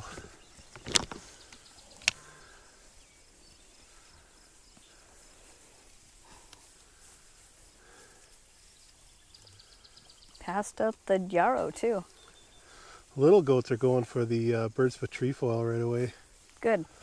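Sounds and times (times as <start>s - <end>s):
faint insect chirping: 0.0s - 17.0s.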